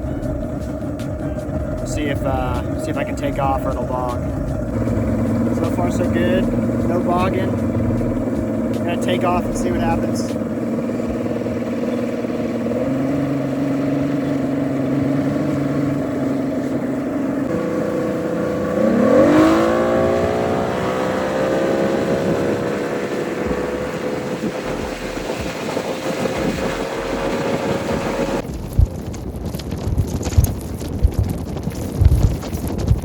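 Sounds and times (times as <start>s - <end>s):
outboard motor revving: 0.0s - 28.4s.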